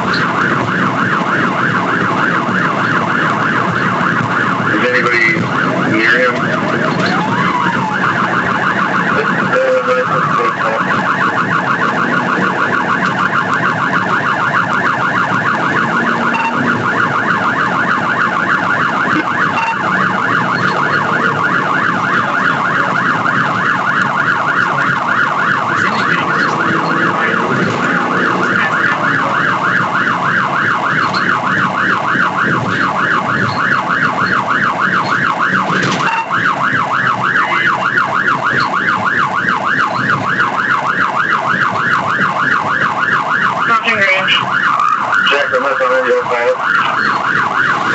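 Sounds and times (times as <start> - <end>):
car engine: 0.0 - 47.9
police siren yelping: 0.0 - 47.9
road noise: 0.0 - 47.9.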